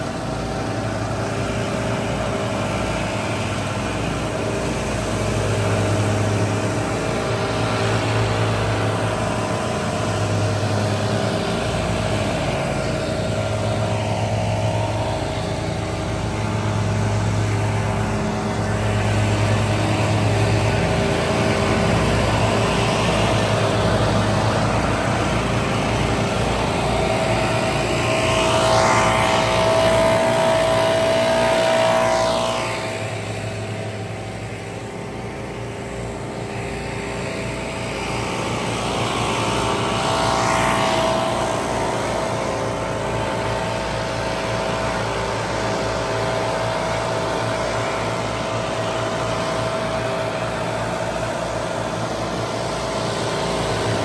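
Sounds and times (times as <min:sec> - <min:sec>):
leaf blowers running: 0:00.0 - 0:54.0.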